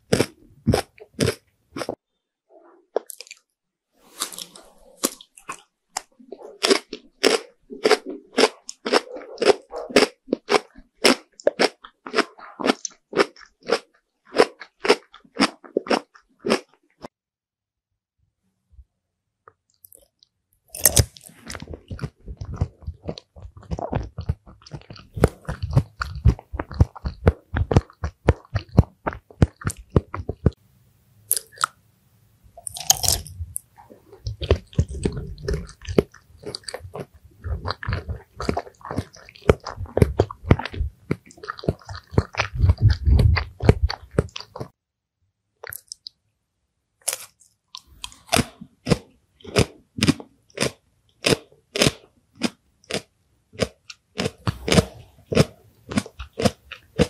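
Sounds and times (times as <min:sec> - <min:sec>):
chewing with sharp crunches: 0:00.1 - 0:02.0, 0:04.2 - 0:17.1, 0:19.8 - 0:30.6, 0:32.6 - 0:44.8, 0:47.1 - 0:57.0.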